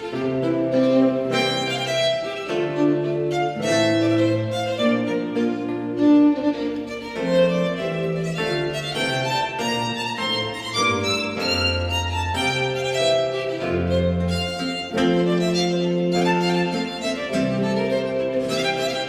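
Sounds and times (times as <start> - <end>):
instrumental melody: 0.0 - 19.0.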